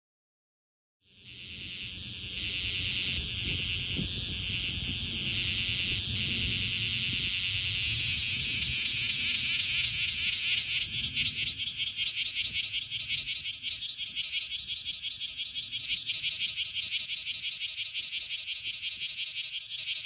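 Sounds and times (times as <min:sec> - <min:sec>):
cicada buzzing: 0:01.0 - 0:20.0.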